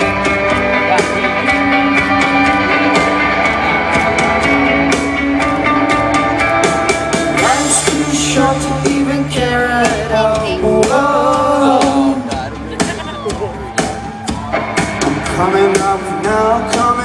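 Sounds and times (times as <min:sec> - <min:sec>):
bass guitar: 0:00.0 - 0:17.0
guitars: 0:00.0 - 0:17.0
steady drum beat: 0:00.0 - 0:17.0.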